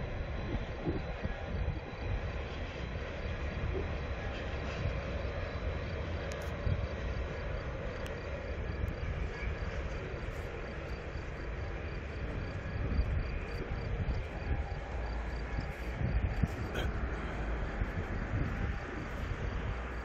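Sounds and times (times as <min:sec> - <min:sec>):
low rumble and hiss: 0:00.0 - 0:20.0
insects chirping: 0:00.2 - 0:20.0.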